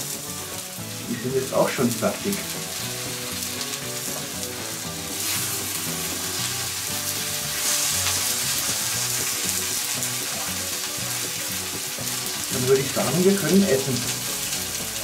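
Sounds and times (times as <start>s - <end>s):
meat sizzling on a grill: 0.0s - 15.0s
mushrooms frying in a pan: 0.0s - 15.0s.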